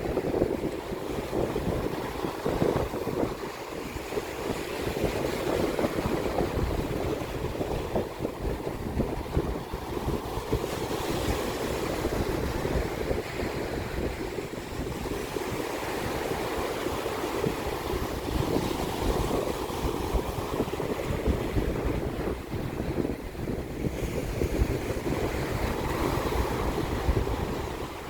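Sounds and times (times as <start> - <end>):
sea waves washing ashore: 0.0 - 28.0
wind buffeting microphone: 0.0 - 28.0.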